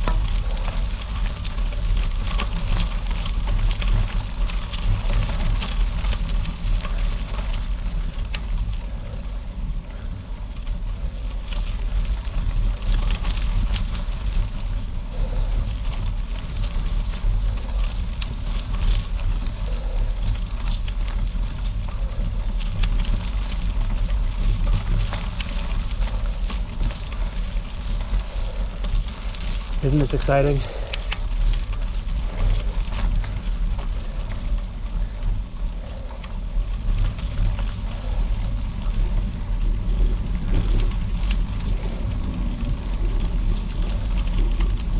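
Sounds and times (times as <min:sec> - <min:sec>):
bicycle tyres crackling on gravel: 0:00.0 - 0:44.9
wind buffeting microphone: 0:00.0 - 0:44.9.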